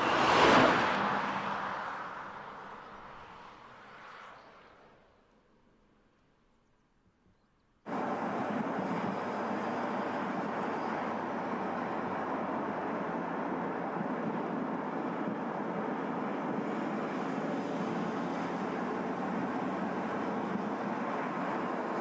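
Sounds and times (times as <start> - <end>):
car road and wind noise: 0.0 - 5.8, 7.9 - 22.0.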